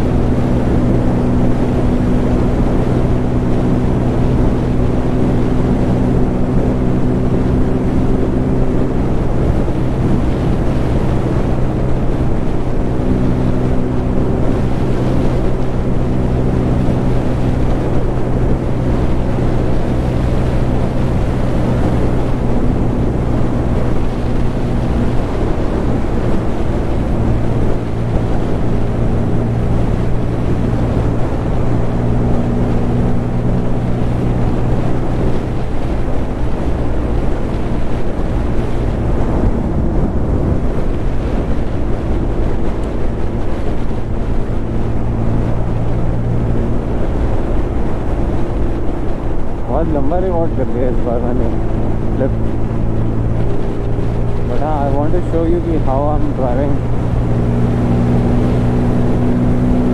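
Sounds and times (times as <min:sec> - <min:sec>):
motorcycle engine cruising: 0:00.0 - 0:59.9
wind buffeting microphone: 0:00.0 - 0:59.9.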